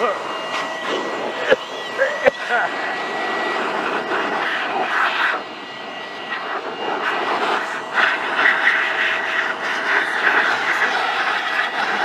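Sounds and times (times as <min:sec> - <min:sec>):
air duster motor whine: 0:00.0 - 0:12.0.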